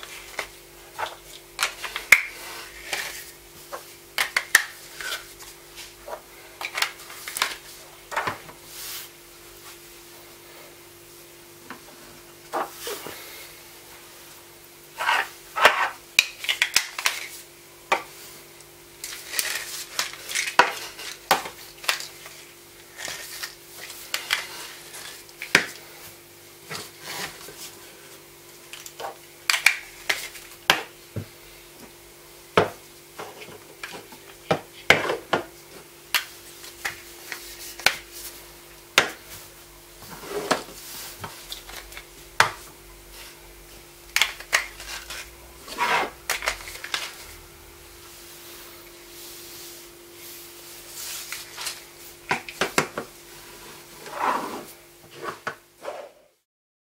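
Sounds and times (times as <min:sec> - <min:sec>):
faint steady hum: 0:00.0 - 0:56.4.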